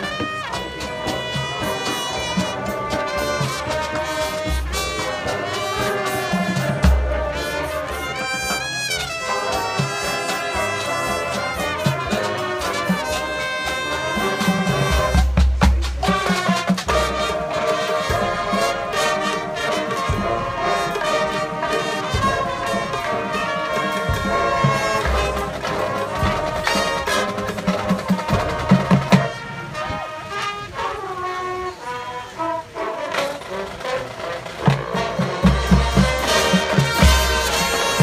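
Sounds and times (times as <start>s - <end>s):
drum and bugle corps playing: 0.0s - 38.0s.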